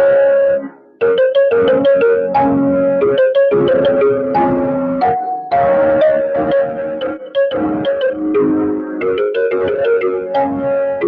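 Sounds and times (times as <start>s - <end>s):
instrumental melody: 0.0s - 11.0s.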